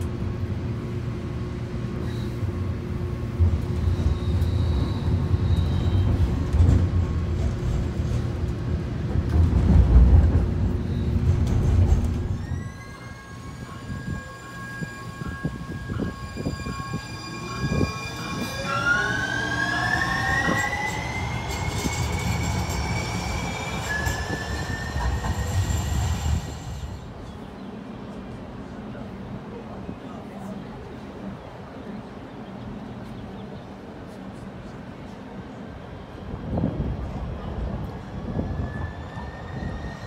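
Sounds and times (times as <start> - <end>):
light-rail car rumble: 0.0 - 40.0.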